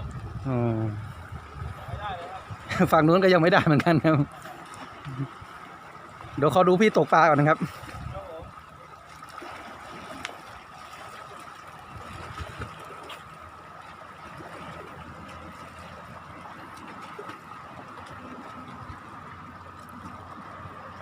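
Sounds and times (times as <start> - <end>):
low motor hum: 0.0 - 21.0
seawater washing along shore: 0.0 - 21.0.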